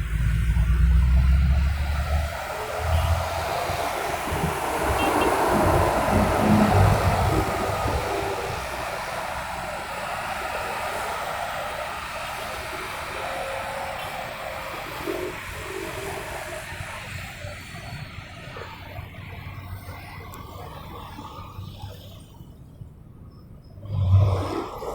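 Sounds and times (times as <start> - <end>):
passing vehicle: 0.0 - 24.9
road traffic rumble: 0.0 - 24.9.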